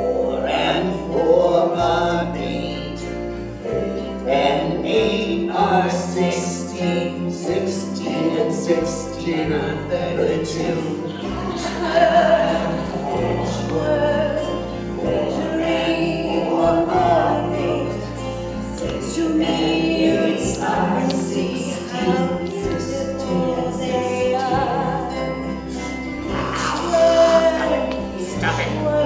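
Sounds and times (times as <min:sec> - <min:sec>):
instrumental backing with bass: 0:00.0 - 0:29.0
woman singing: 0:04.3 - 0:29.0.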